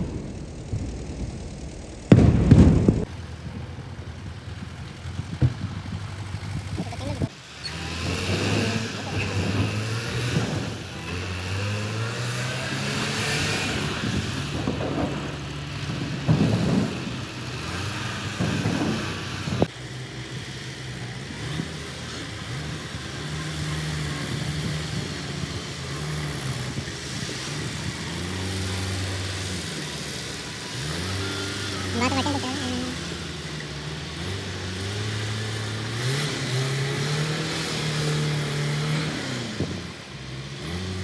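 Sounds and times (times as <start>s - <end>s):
tractor engine running: 0.0s - 11.8s, 13.7s - 38.8s.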